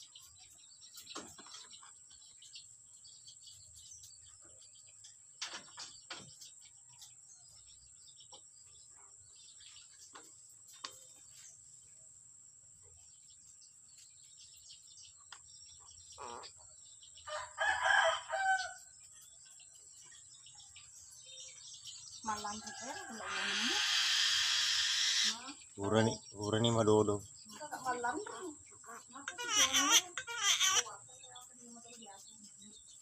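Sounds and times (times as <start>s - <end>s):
bird calls and chirps: 0.0s - 12.0s, 12.8s - 33.0s.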